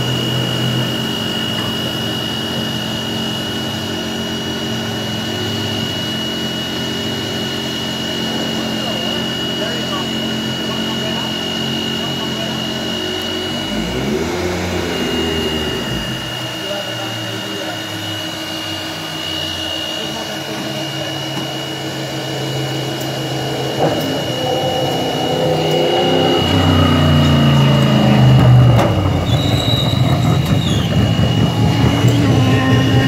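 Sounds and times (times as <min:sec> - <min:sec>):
racing car engines: 0:00.0 - 0:33.0
steady high whine: 0:00.0 - 0:33.0.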